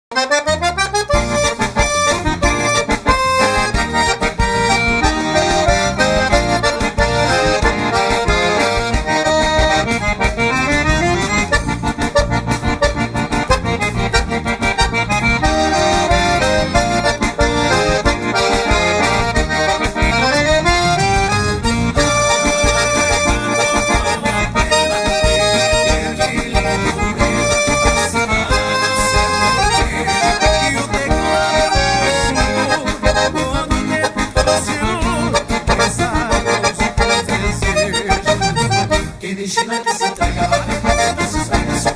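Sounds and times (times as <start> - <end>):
band backing track: 0.1 - 41.9
piano accordion melody: 0.1 - 41.9.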